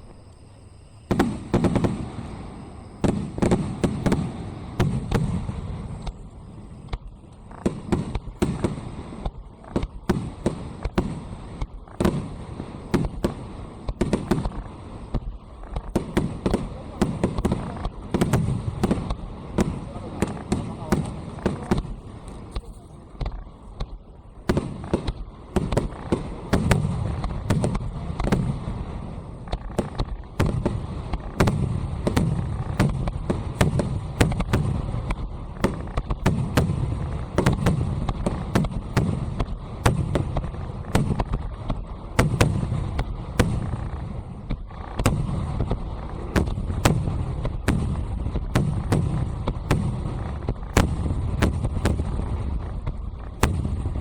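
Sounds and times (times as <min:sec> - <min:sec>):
fireworks cracking: 0:00.0 - 0:54.0
low rumble of booms: 0:01.0 - 0:54.0.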